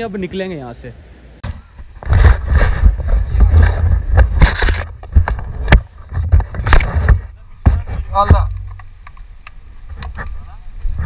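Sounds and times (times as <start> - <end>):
wind buffeting microphone: 1.4 - 11.0.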